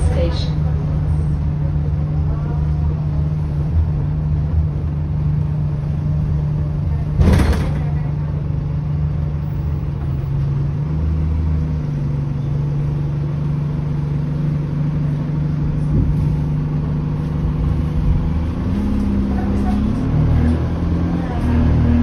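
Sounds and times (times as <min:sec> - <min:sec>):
bus diesel engine humming: 0:00.0 - 0:22.0.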